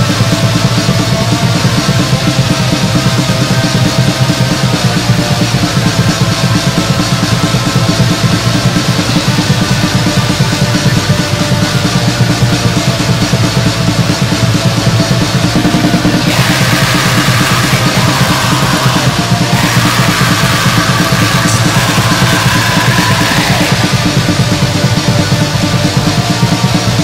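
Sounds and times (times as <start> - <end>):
distorted guitars: 0.0 - 27.0
rapid dense drumming: 0.0 - 27.0.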